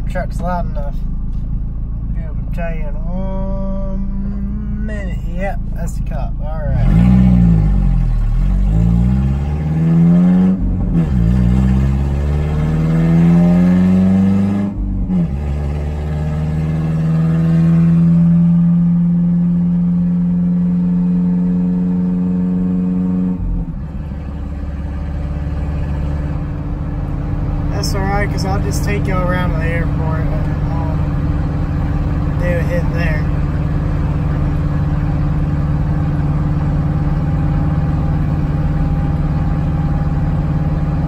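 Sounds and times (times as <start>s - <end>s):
truck engine accelerating: 0.0s - 41.0s
loud exhaust: 6.6s - 41.0s.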